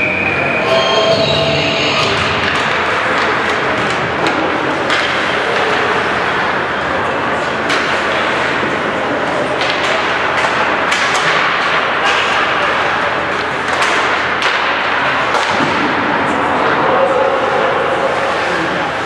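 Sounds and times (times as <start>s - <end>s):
clacks of sticks and puck: 2.4s - 19.0s.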